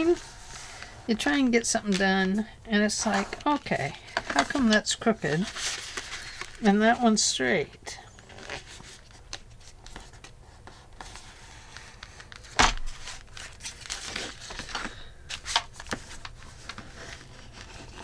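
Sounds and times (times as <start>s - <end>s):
paper rustling and crinkling: 0.0s - 7.0s, 8.2s - 18.0s.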